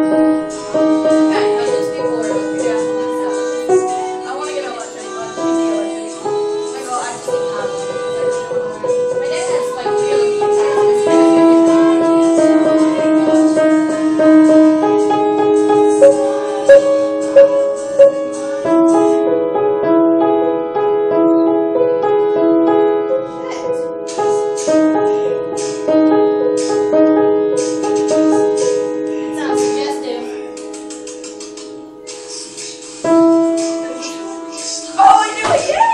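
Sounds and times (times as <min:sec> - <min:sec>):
slow keyboard melody: 0:00.0 - 0:35.4.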